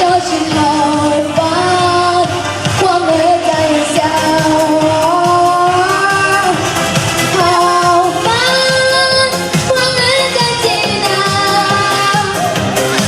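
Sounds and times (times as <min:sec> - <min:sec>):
backing track: 0:00.0 - 0:13.0
girl singing a pop ballad: 0:00.0 - 0:13.0.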